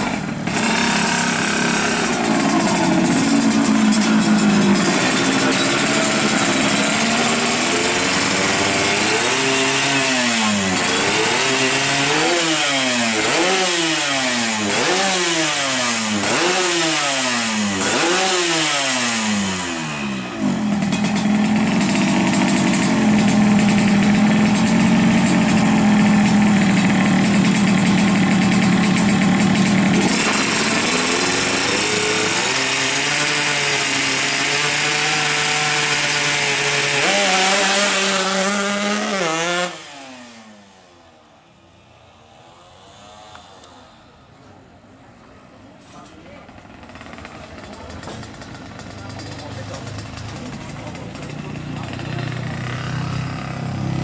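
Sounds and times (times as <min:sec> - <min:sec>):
motorcycle engine revving: 0:00.0 - 0:41.3, 0:46.0 - 0:54.0.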